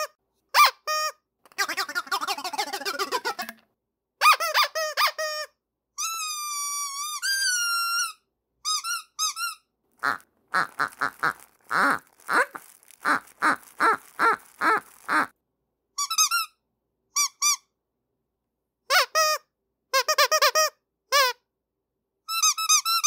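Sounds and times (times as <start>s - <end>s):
squeaky dog toy squeaking: 0.0s - 3.6s, 4.2s - 15.3s, 16.0s - 17.7s, 18.9s - 21.4s, 22.3s - 23.0s.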